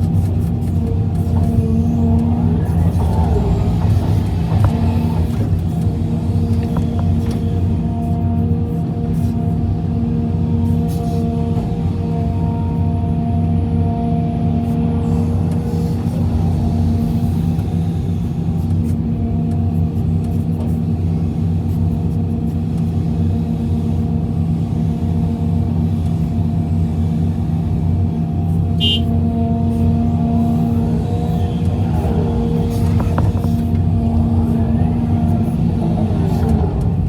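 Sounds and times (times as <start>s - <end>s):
heavy diesel engine droning: 0.0s - 37.0s.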